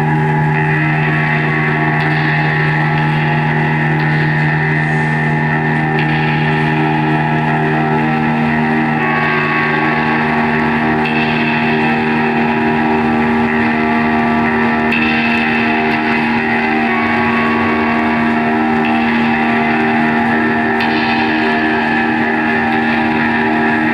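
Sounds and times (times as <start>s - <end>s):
live band droning: 0.0s - 23.9s.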